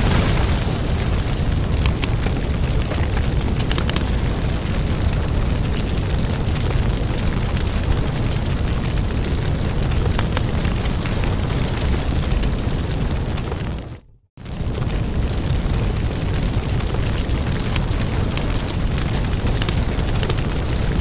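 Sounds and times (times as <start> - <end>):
fire crackling and popping: 0.0 - 21.0
low rush of flames: 0.0 - 21.0.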